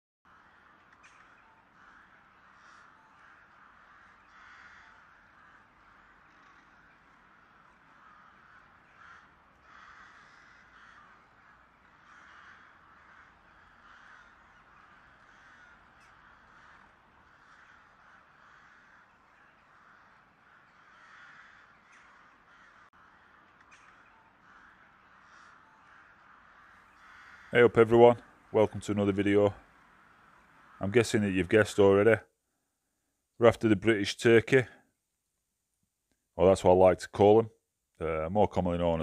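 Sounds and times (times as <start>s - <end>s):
distant crows cawing: 0.3s - 35.7s.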